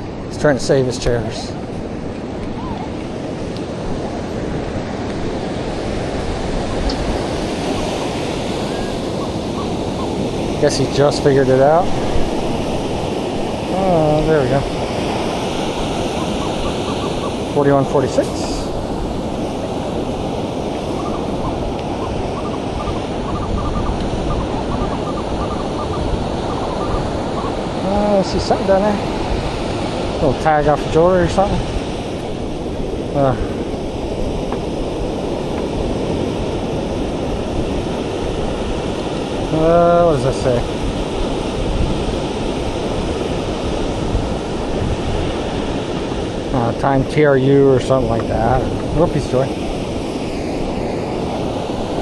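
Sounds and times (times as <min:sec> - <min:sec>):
ocean surf breaking: 0:00.0 - 0:52.0
wind buffeting microphone: 0:00.0 - 0:52.0.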